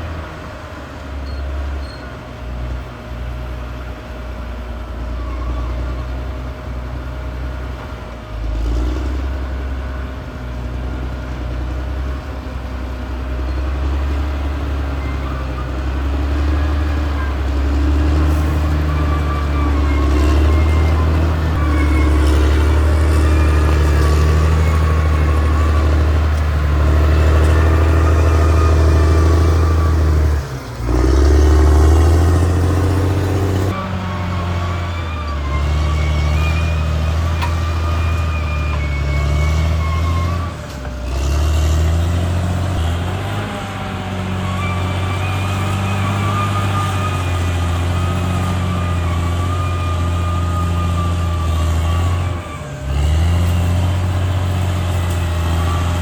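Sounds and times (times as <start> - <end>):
bulldozer diesel engine drone: 0.0 - 56.0.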